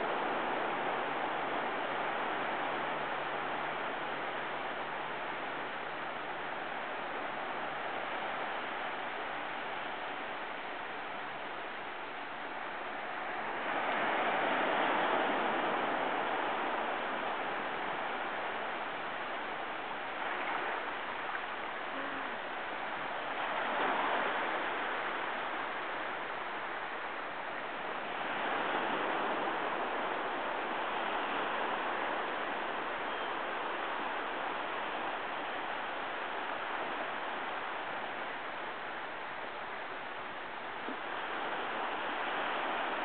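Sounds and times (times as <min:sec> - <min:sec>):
waves breaking on beach: 0:00.0 - 0:43.0.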